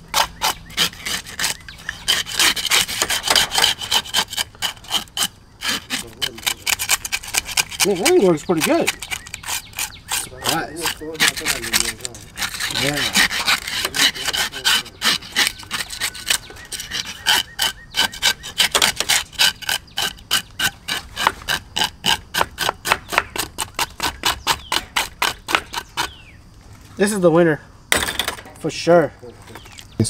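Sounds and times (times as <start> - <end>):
metal scaler scraping fish scales: 0.0 - 26.2.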